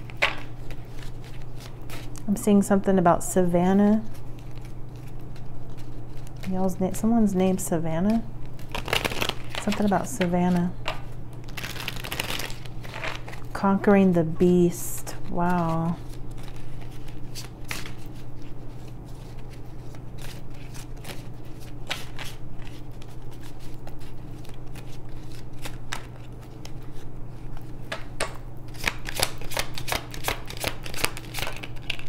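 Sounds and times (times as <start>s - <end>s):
cards being shuffled: 0.0s - 2.3s, 4.0s - 13.6s, 15.2s - 28.0s, 28.7s - 32.0s.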